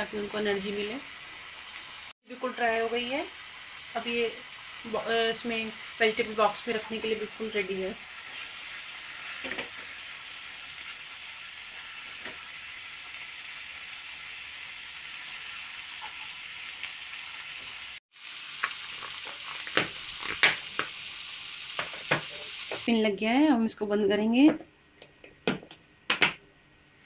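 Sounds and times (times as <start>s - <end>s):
food sizzling in a pan: 0.0s - 24.1s.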